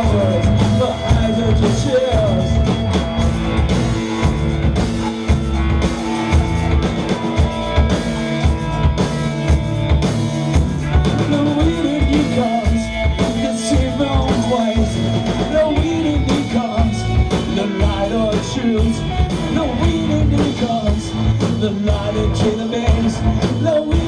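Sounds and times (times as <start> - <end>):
droning basses and electric guitars: 0.0 - 24.0
drum kit beat: 0.0 - 24.0.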